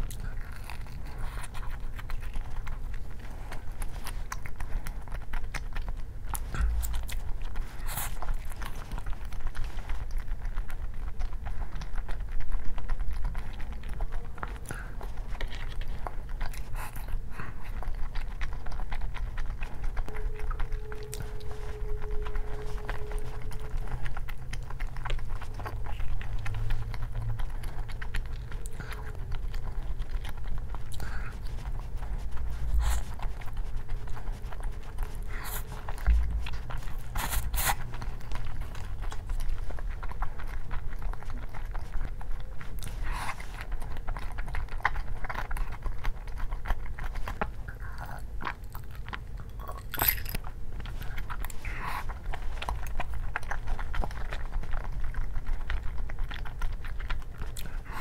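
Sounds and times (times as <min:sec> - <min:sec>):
low hum: 0:00.0 - 0:55.8
person chewing and crunching: 0:00.0 - 0:58.0.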